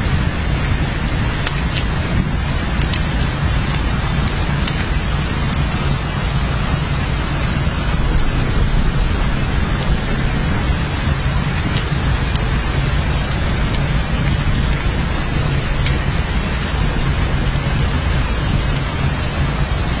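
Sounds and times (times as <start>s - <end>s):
heavy rain hiss: 0.0s - 20.0s
low rumble: 0.0s - 20.0s
raindrop ticks: 0.0s - 20.0s.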